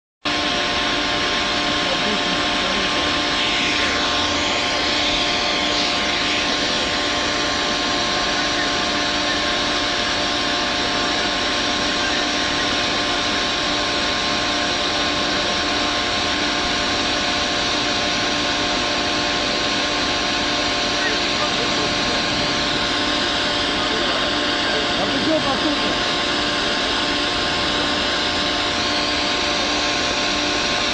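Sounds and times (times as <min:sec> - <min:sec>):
diesel machinery droning: 0:00.3 - 0:30.9.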